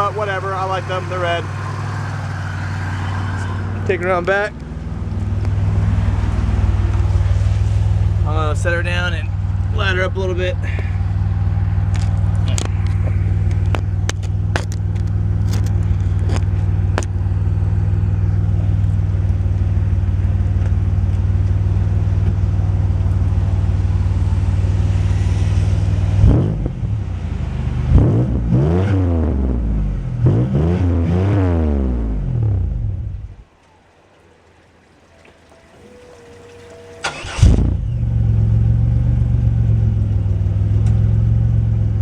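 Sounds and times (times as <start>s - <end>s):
car engine idling: 0.0s - 28.0s, 32.0s - 42.0s
car engine revving: 0.0s - 33.4s, 34.2s - 42.0s.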